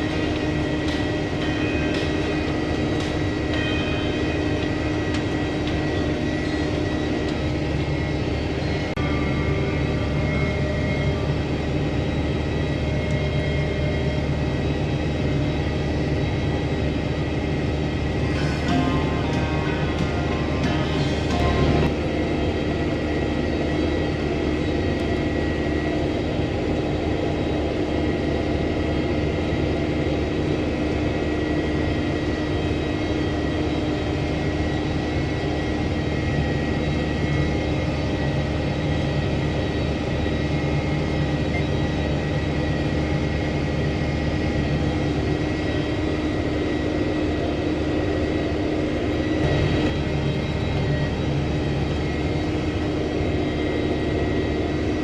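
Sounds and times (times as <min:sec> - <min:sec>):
sprayer engine low drone: 0:00.0 - 0:55.0
steady high whine: 0:00.0 - 0:55.0.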